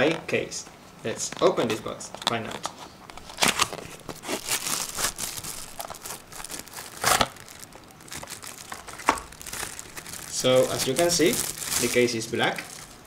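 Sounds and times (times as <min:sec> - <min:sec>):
plastic bag crinkling: 0:02.4 - 0:13.0.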